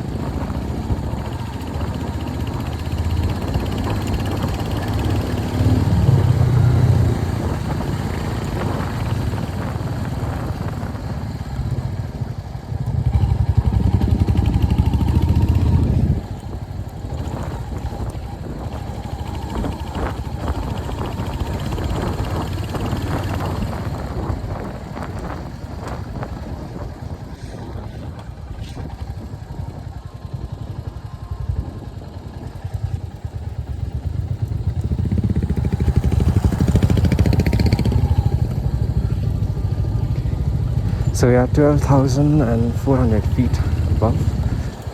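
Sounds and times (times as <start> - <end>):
motorcycle engine and exhaust: 0.0 - 44.9.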